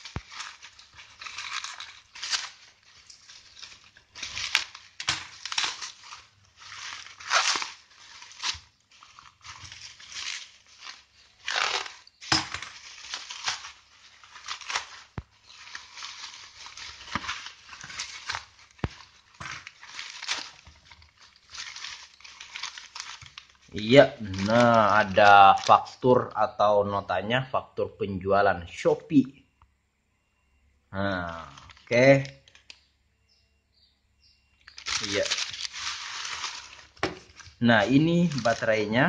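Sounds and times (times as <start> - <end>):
bubble wrap crinkling: 0.0 - 26.3, 31.1 - 32.8, 34.3 - 39.0.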